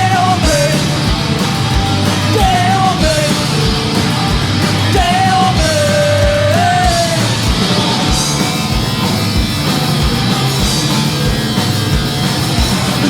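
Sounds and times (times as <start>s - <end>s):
punk rock band playing: 0.0s - 13.0s
steady drum beat: 0.0s - 13.0s.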